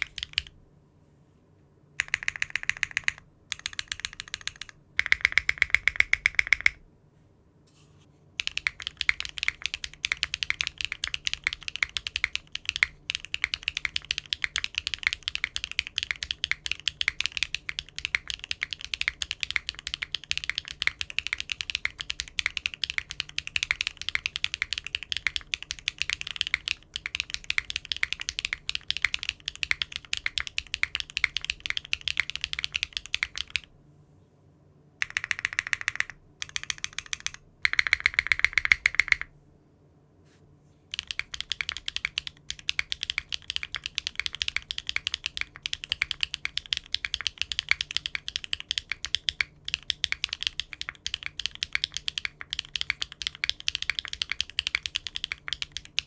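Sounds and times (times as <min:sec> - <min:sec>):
mechanical keyboard typing: 0:00.0 - 0:00.5, 0:02.0 - 0:06.8, 0:08.4 - 0:33.7, 0:35.0 - 0:39.3, 0:40.9 - 0:56.0.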